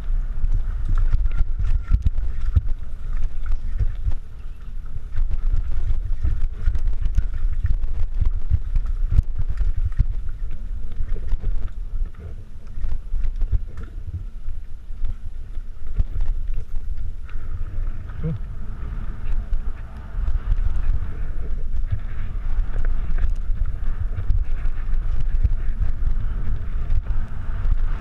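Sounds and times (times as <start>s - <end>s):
bike clicking and rattling: 0.0s - 28.0s
tyres running over dirt and rocks: 0.0s - 28.0s
wind rumble on microphone: 0.0s - 28.0s.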